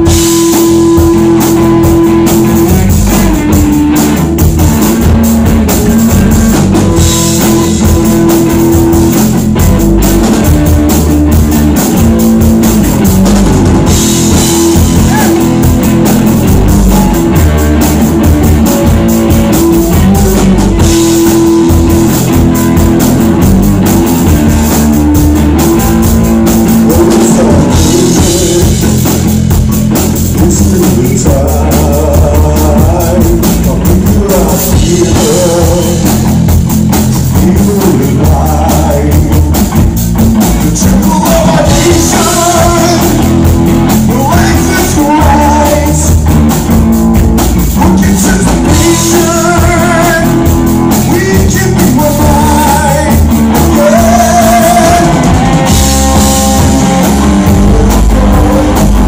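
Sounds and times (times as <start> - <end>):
drum kit steady beat: 0.0 - 59.0
electric guitars: 0.0 - 59.0.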